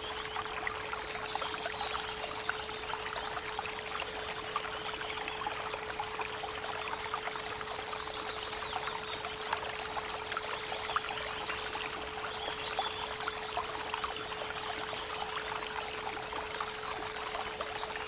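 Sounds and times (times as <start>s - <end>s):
creek water trickling: 0.0s - 18.0s.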